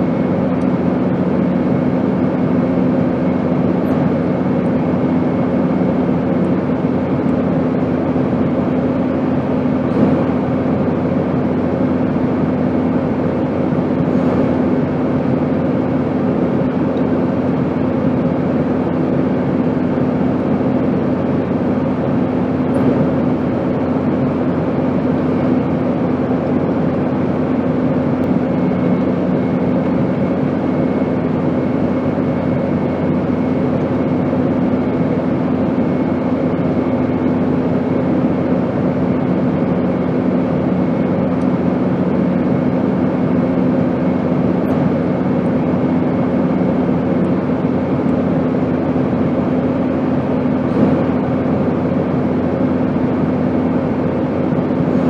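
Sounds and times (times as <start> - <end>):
airplane engine roar: 0.0 - 55.0.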